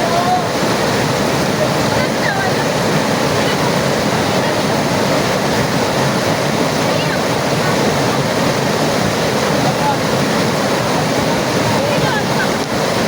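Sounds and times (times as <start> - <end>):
loud rush of water: 0.0 - 13.0.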